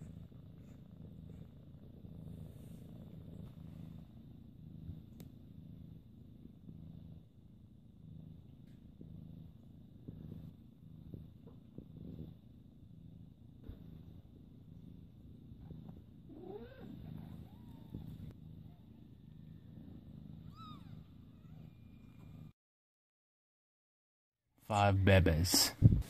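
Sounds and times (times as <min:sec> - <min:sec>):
cat purring: 0:00.0 - 0:22.6.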